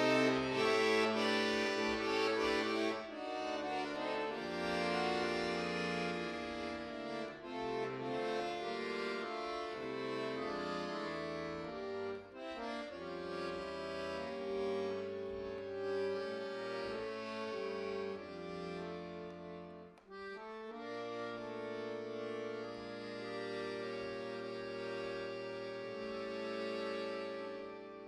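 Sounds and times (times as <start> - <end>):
button accordion chords: 0.0 - 28.0.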